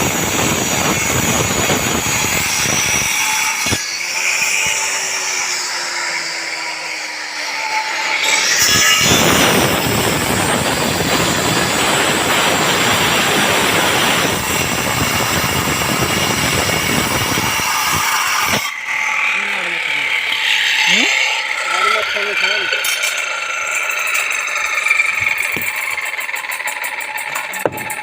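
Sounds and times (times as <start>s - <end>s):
concrete cutter grinding: 0.0s - 28.0s.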